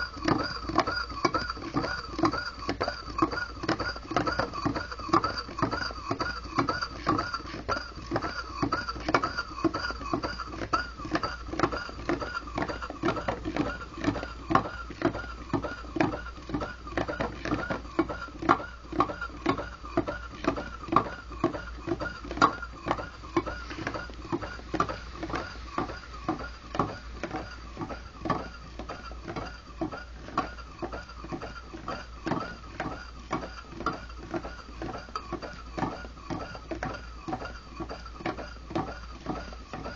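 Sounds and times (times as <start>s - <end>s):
rhythmic engine squeak: 0.0s - 39.9s.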